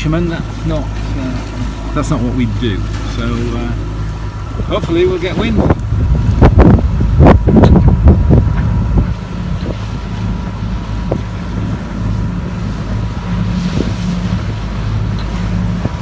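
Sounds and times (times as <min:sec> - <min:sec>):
boat engine humming: 0:00.0 - 0:16.0
wind buffeting microphone: 0:00.0 - 0:16.0.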